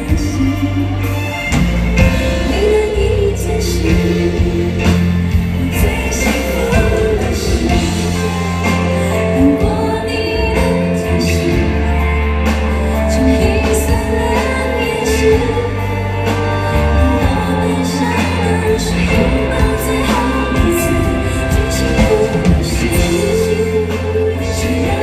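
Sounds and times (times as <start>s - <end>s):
live pop ballad by a band: 0.0s - 25.0s
person singing: 0.0s - 25.0s.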